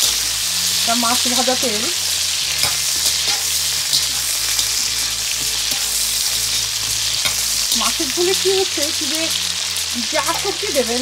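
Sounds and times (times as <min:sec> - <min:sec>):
metal spatula stirring: 0:00.0 - 0:08.7, 0:10.1 - 0:10.8
vegetables sizzling in oil: 0:00.0 - 0:11.0.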